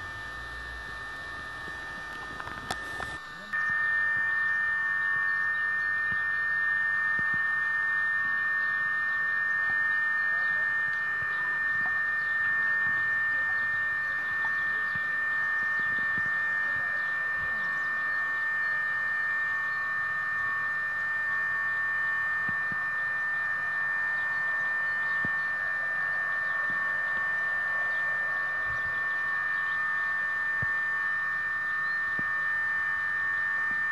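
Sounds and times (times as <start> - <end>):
steady high-pitched hum: 0.0 - 33.9.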